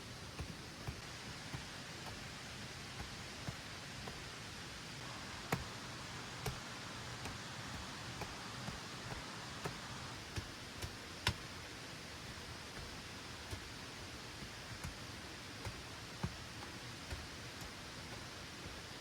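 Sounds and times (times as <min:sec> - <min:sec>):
steady rain hiss: 0:00.0 - 0:19.0
large raindrops tapping: 0:00.1 - 0:19.0.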